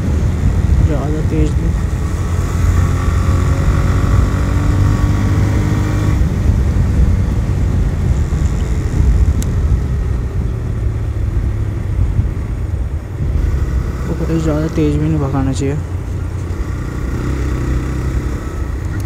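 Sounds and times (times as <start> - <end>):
motorcycle engine running: 0.0 - 19.0
road rumble: 0.0 - 19.0
wind rumble on microphone: 0.0 - 19.0.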